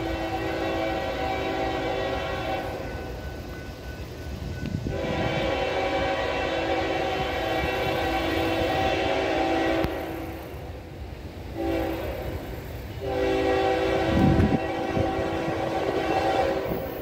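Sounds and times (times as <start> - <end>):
train air horn blasts: 0.0 - 3.1, 4.7 - 10.7, 11.5 - 17.0
train rumble: 0.0 - 17.0.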